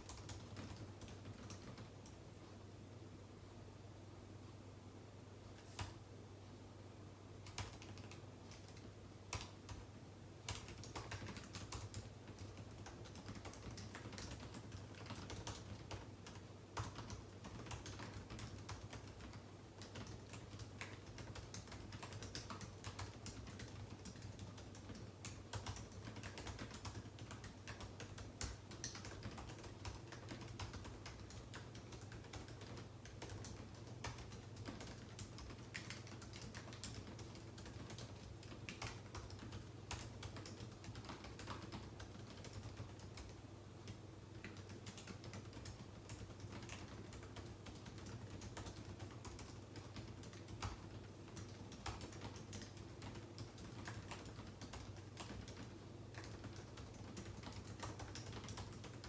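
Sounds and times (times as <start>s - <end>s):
typing on computer keyboard: 0.0s - 2.2s, 7.4s - 59.0s
low steady hum: 0.0s - 59.0s.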